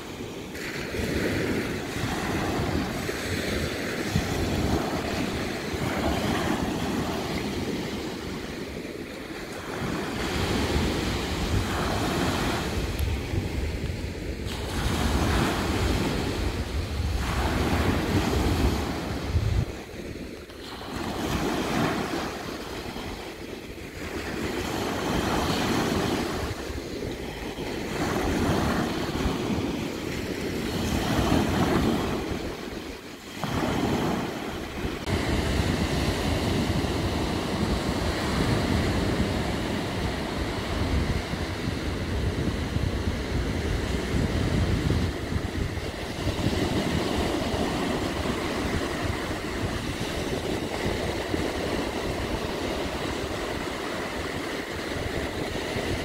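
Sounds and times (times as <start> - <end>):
waves washing up a beach: 0.0 - 56.0
wind rumbling on microphone: 0.0 - 56.0.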